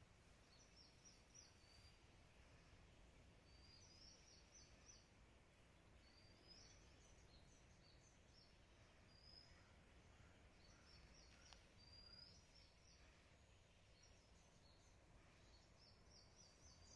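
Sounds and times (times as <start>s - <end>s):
faint birds chirping: 0.0s - 16.9s.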